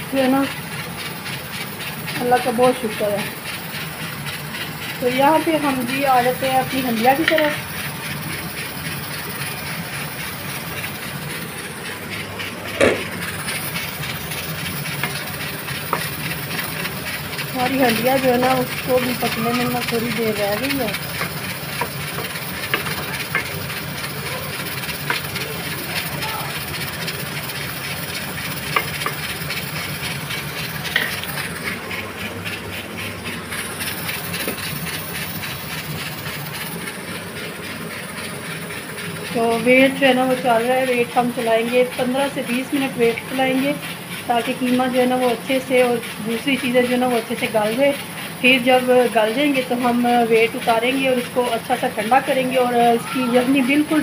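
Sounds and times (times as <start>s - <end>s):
gas burner hissing: 0.0s - 54.0s.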